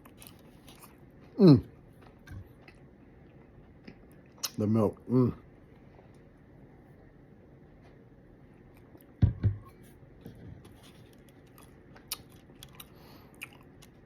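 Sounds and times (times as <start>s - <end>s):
soft chewing: 0.0s - 9.2s, 9.9s - 14.0s.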